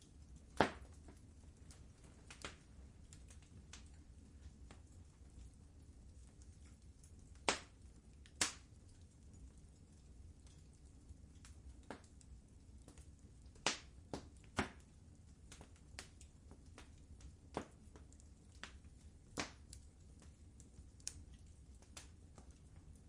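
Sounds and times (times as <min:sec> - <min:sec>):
low steady fire rumble: 0:00.0 - 0:23.0
wood fire crackling and popping: 0:00.0 - 0:23.0.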